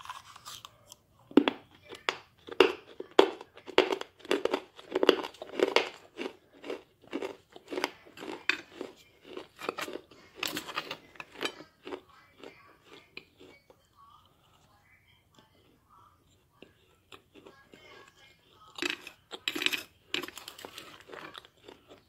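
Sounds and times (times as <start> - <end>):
crunchy chewing: 0.0 - 14.7, 15.4 - 22.0.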